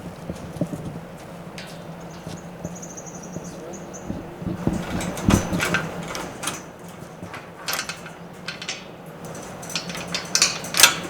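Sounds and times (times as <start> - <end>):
microphone handling clicks and rustles: 0.0 - 11.0.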